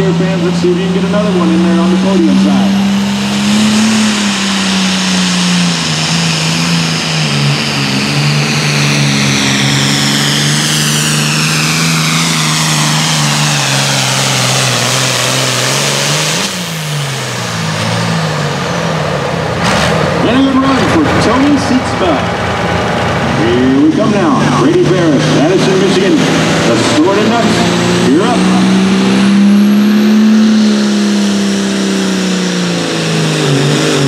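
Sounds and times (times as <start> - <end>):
tractor diesel engine straining: 0.0 - 34.0.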